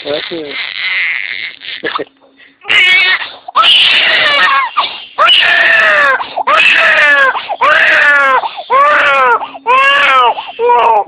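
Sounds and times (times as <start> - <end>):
baby crying in loud wails: 0.5 - 1.7, 2.6 - 11.0.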